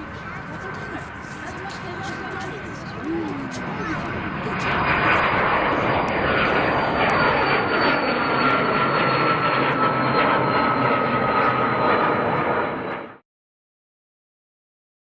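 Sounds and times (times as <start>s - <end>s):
jet taking off with high whine: 0.0s - 13.2s.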